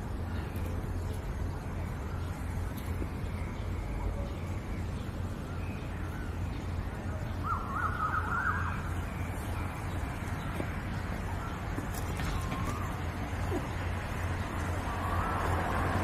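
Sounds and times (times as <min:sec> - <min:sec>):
faint bird calls: 0:02.2 - 0:16.0.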